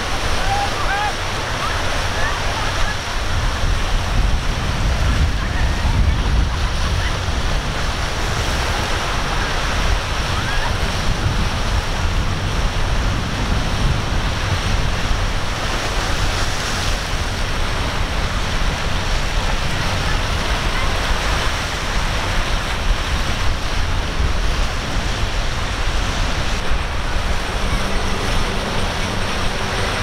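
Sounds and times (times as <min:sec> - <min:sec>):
surf and water rushing: 0:00.0 - 0:30.0
wind buffeting microphone: 0:00.0 - 0:30.0.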